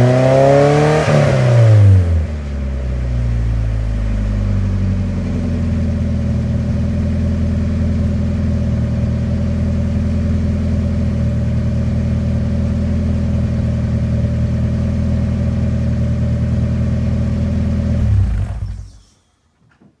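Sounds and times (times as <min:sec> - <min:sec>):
engine shutting off: 0:00.0 - 0:19.4
car engine idling: 0:01.6 - 0:19.1.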